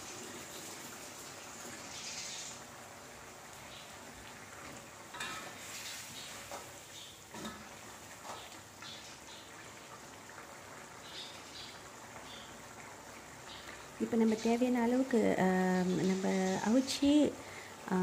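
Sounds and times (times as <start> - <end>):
sauce simmering and bubbling: 0.0 - 17.9.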